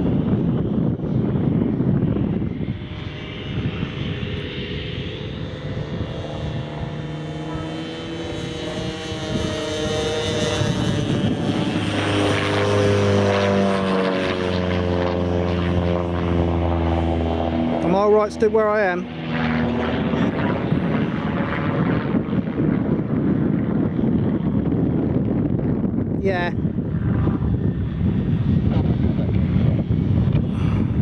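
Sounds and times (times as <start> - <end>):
model airplane engine and propeller: 0.0 - 31.0.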